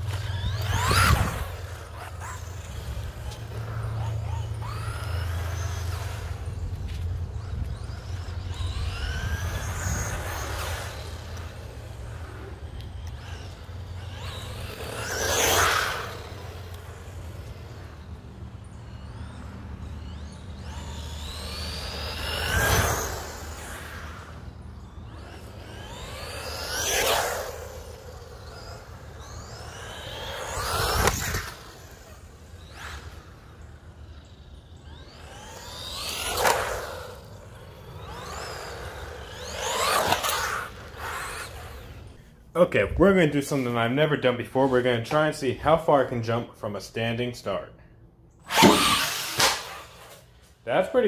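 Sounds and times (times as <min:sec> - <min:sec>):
electric motor whining: 0:00.0 - 0:42.3, 0:48.4 - 0:50.6
tyre noise on asphalt: 0:00.0 - 0:42.3.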